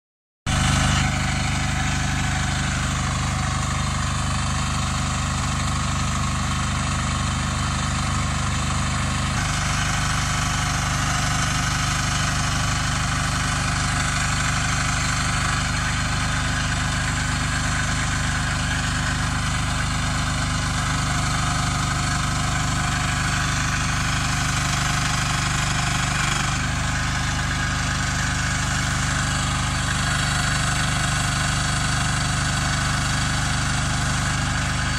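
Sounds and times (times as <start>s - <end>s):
excavator engine running: 0.5s - 34.9s.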